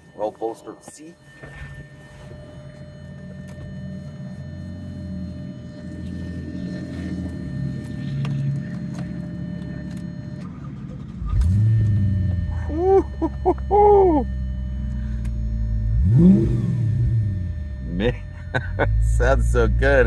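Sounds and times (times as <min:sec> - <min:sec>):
car engine running: 0:01.2 - 0:20.0.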